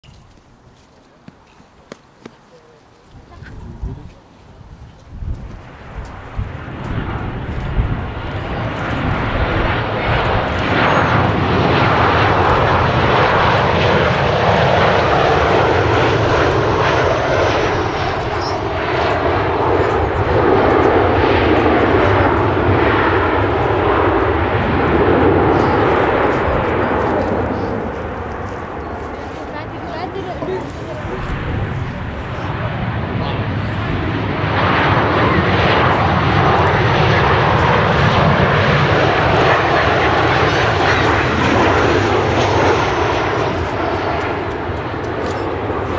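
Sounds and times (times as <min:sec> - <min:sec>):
jet engine roar: 0:01.7 - 0:45.9.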